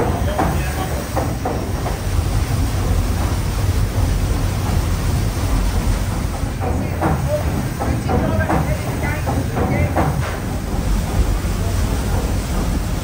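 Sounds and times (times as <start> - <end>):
churning paddle wheels: 0.0 - 13.0
steam machinery rumble and hiss: 0.0 - 13.0.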